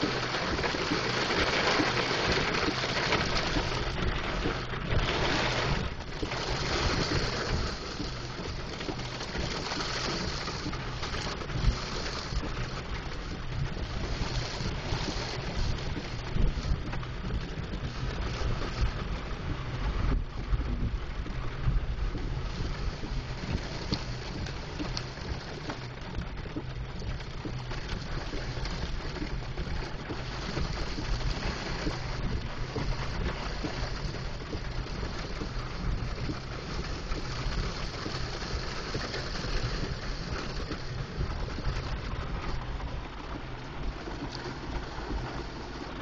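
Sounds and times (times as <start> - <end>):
vehicle rumbling on wet driveway: 0.0 - 46.0.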